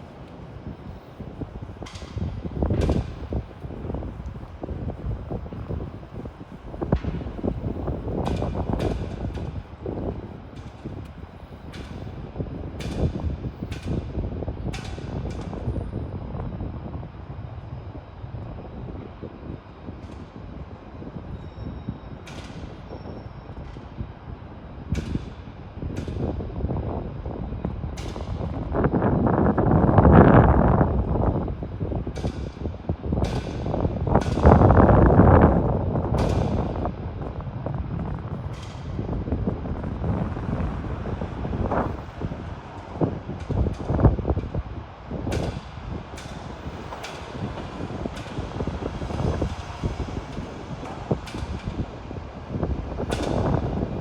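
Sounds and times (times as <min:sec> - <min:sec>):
gusty wind buffeting microphone: 0:00.0 - 0:54.0.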